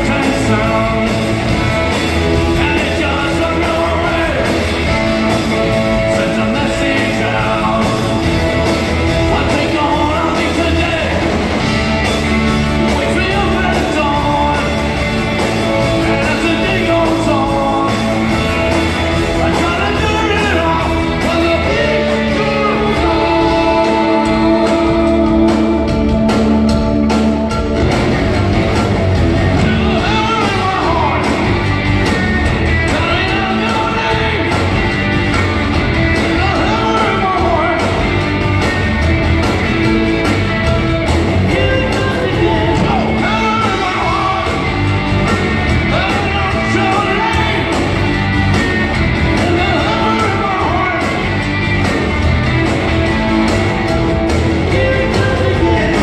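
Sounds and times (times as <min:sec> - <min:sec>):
lead singer singing: 0:00.0 - 0:27.5, 0:29.2 - 0:51.9, 0:52.5 - 0:56.0
drums: 0:00.0 - 0:56.0
electric guitars: 0:00.0 - 0:56.0
keyboards: 0:00.0 - 0:56.0.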